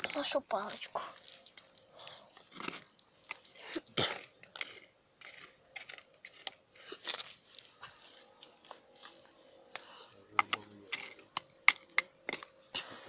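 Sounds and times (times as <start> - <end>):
stick stirring crackling embers: 0.0 - 13.0.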